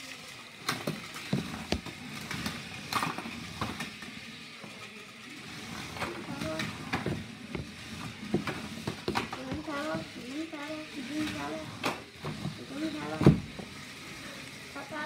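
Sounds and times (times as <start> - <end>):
small electric motors whirring: 0.0 - 15.0.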